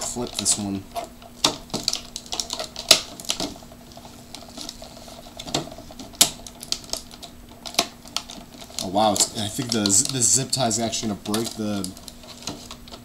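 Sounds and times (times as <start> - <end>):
low steady hum: 0.0 - 13.0
plastic package clicking and rattling: 0.0 - 13.0.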